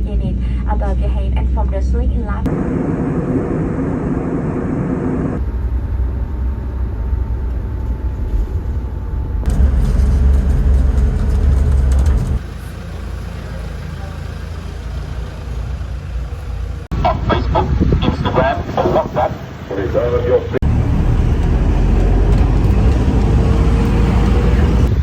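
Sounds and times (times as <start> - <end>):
low vehicle rumble: 0.0 - 25.0.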